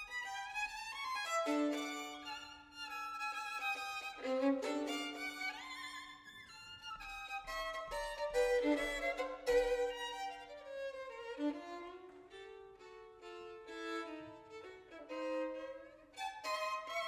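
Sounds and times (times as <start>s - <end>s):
solo violin melody: 0.0s - 17.0s.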